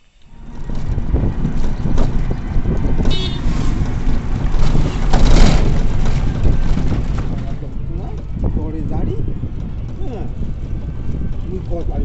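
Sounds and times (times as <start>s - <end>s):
road rumble: 0.0s - 12.0s
vehicle body rattling: 0.3s - 12.0s
wind buffeting microphone: 0.3s - 12.0s.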